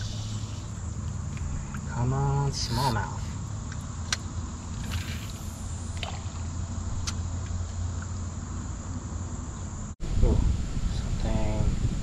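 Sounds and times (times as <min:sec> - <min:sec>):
high insect drone: 0:00.0 - 0:12.0
steady low rumble: 0:00.0 - 0:12.0.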